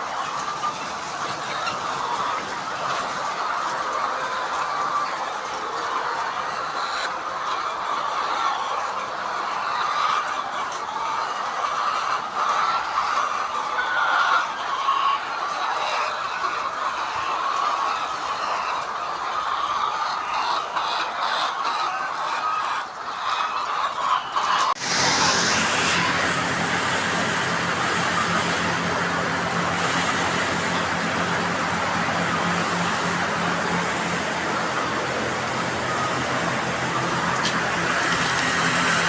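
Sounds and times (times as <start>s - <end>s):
chickens clucking and calling: 0.0s - 39.0s.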